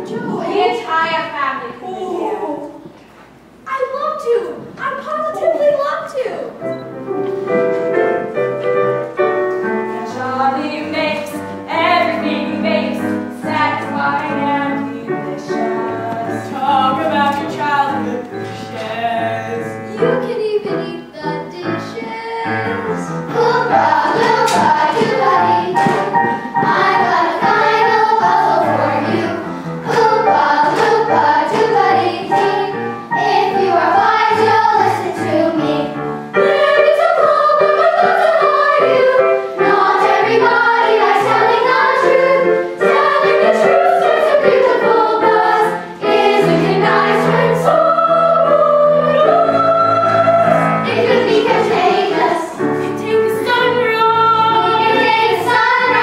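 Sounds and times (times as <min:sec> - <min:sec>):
instrumental accompaniment: 0:06.6 - 0:56.0
group singing a musical theatre song: 0:09.9 - 0:56.0.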